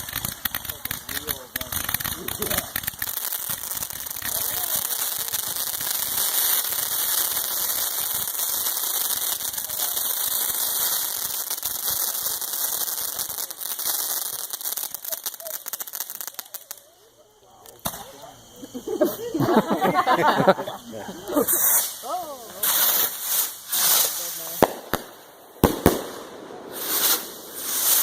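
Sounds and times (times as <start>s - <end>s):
firework crackling and hissing: 0.0s - 28.0s.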